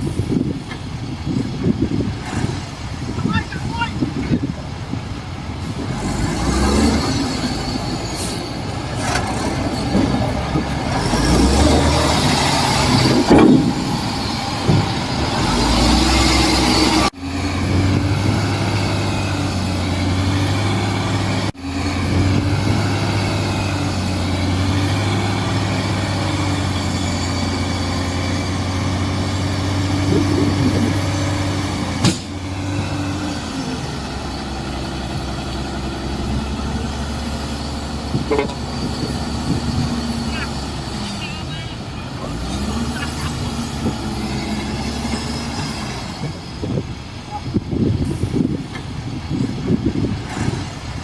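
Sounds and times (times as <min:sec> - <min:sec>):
heavy diesel machinery engine: 0:00.0 - 0:51.0.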